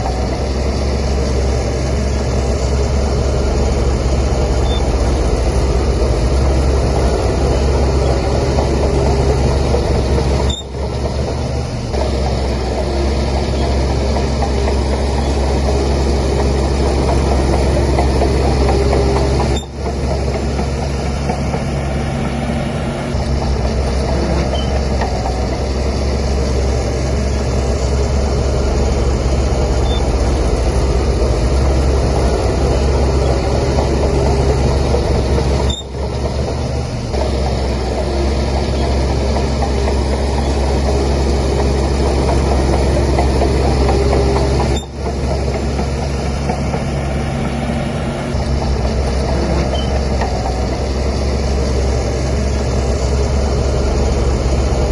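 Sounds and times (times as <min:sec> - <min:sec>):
bulldozer diesel engine rumbling: 0:00.0 - 0:54.9.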